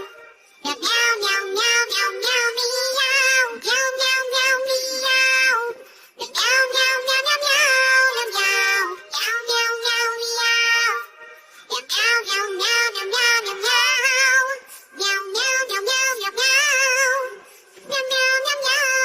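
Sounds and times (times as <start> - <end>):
background music: 0.0 - 19.0
high synthetic singing voice: 0.0 - 19.0.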